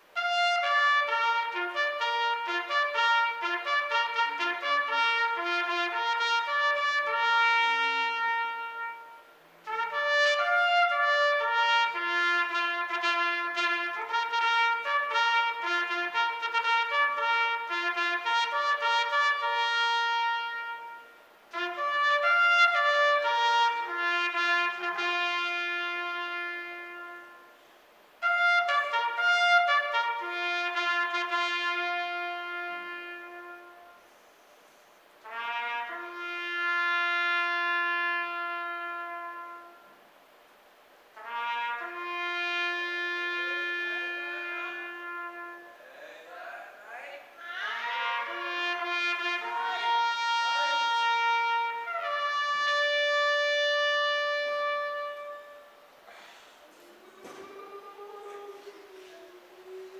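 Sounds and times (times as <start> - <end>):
solo trumpet bugle call: 0.0 - 40.1, 41.1 - 45.9, 47.4 - 59.9.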